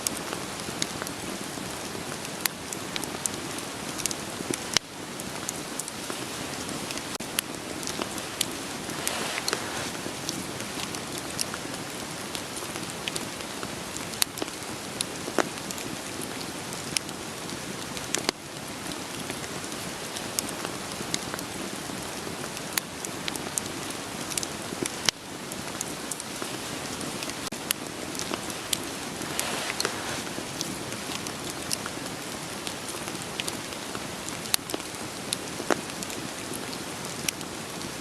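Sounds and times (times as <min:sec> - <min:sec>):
rain hissing: 0:00.0 - 0:38.0
wood fire crackling: 0:00.0 - 0:38.0.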